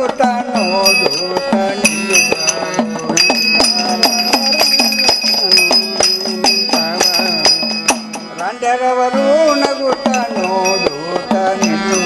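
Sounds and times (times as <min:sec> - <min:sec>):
hand drum beat: 0:00.0 - 0:12.0
harmonium melody: 0:00.0 - 0:12.0
hand cymbals ringing: 0:00.5 - 0:08.6, 0:09.4 - 0:12.0.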